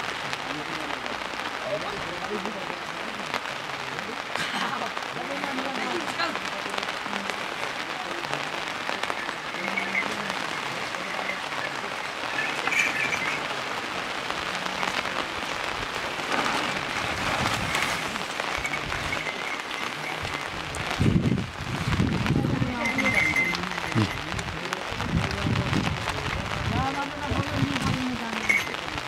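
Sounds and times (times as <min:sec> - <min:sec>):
rain pattering on plastic sheeting: 0:00.0 - 0:29.0.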